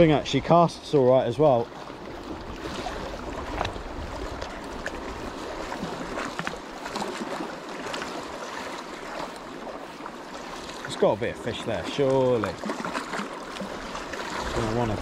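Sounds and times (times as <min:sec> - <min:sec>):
small waves sloshing over rocks: 0:00.0 - 0:15.0.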